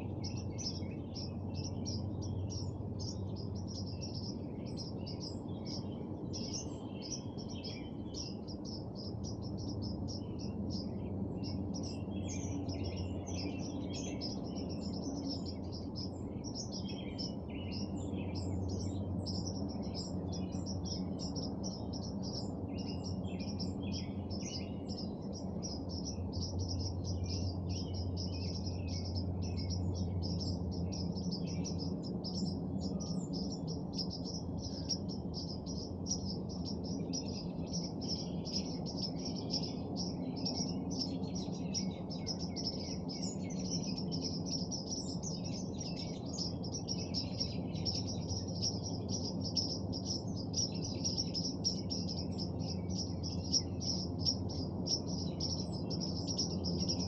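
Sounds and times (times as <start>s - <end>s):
birds chirping chorus: 0.0s - 57.0s
steady low rumble: 0.0s - 57.0s.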